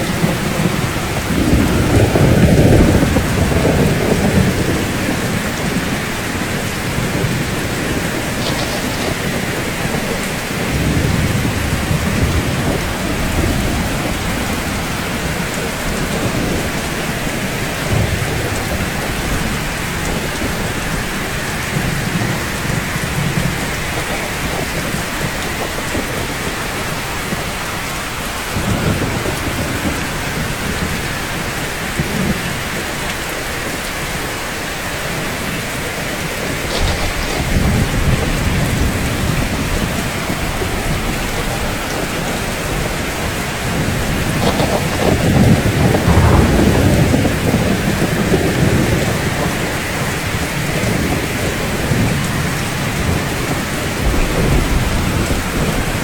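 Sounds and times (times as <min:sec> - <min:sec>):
low thunder rumbles: 0:00.0 - 0:34.2, 0:35.0 - 0:56.0
steady rain: 0:00.0 - 0:56.0.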